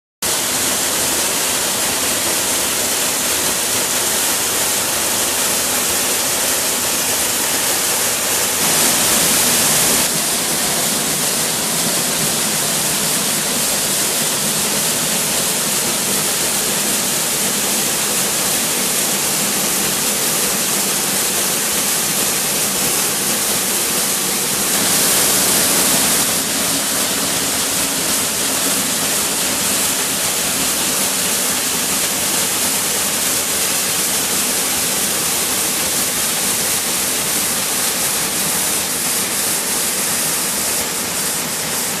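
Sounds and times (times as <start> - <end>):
waterfall rushing: 0.3 - 42.0.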